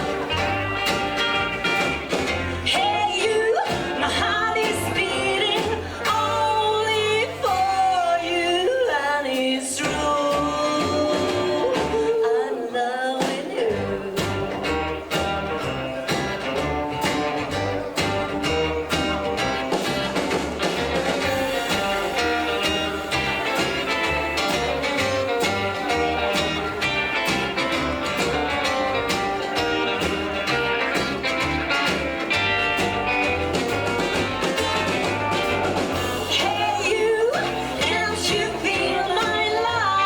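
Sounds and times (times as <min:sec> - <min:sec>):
rockabilly band instrumental: 0:00.0 - 0:12.6, 0:13.2 - 0:40.0.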